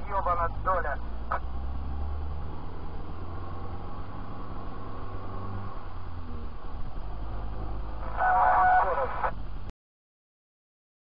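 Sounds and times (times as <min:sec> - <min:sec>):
vehicle engine low drone: 0:00.0 - 0:09.7.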